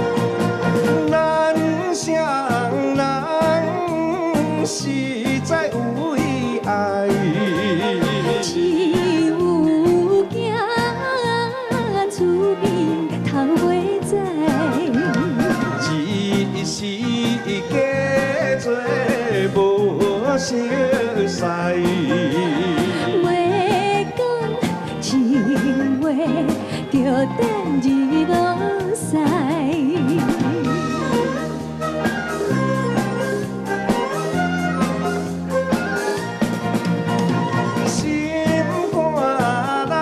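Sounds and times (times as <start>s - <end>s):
chinese orchestra with pipas: 0.0s - 40.0s
man and woman singing duet: 0.8s - 31.4s, 37.5s - 40.0s.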